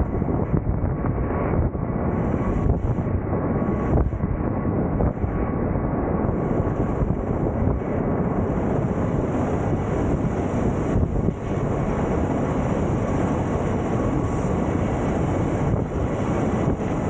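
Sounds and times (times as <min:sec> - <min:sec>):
aircraft engines running: 0:00.0 - 0:17.0
wind buffeting microphone: 0:00.0 - 0:17.0.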